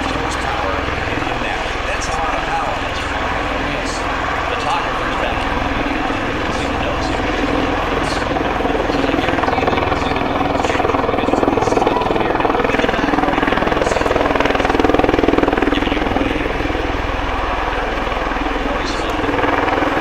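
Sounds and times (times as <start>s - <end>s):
tiltrotor aircraft rotors pulsing: 0.0s - 20.0s.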